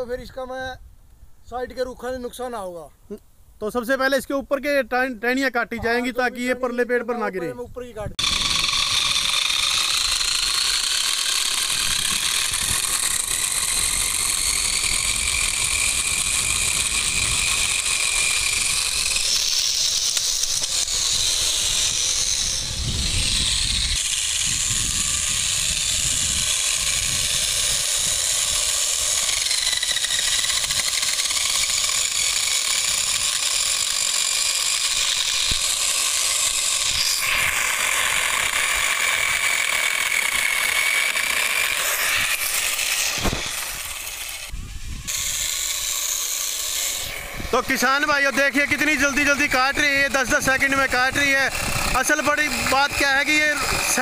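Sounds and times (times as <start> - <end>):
electric chainsaw cutting branches: 8.2 - 54.0.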